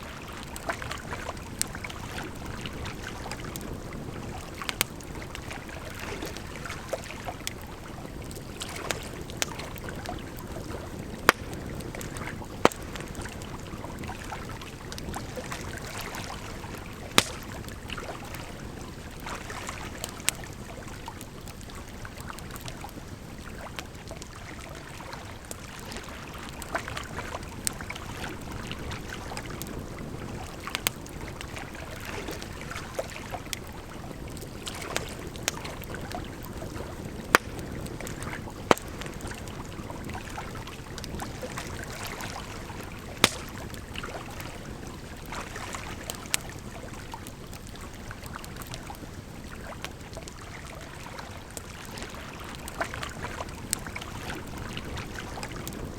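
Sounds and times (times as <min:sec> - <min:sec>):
wood fire crackling and popping: 0:00.2 - 0:24.4, 0:25.4 - 0:50.4.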